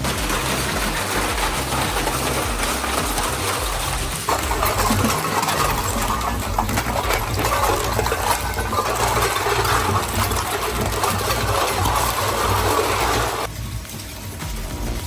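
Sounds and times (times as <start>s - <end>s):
industrial shredder running: 0.0s - 15.0s.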